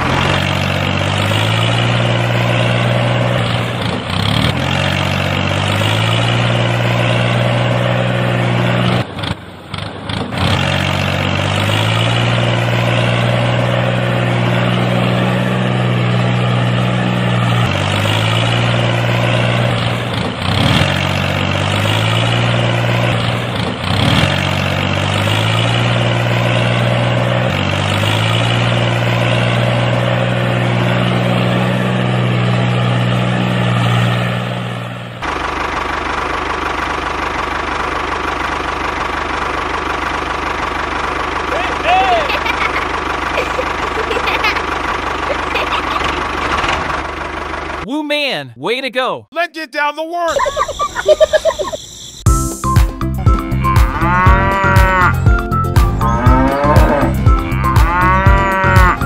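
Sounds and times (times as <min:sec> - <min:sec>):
tractor engine running: 0:00.0 - 0:48.8, 0:50.2 - 0:59.0.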